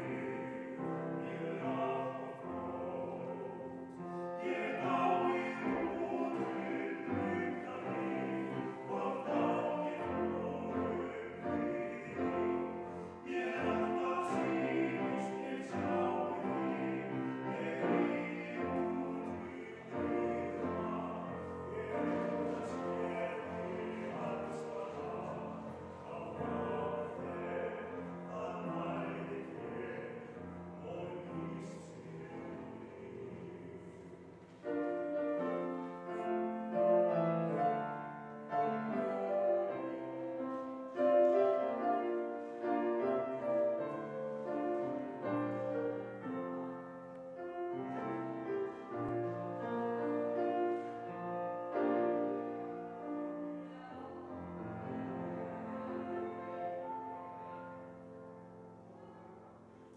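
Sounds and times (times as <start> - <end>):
small choir singing: 0.0 - 59.9.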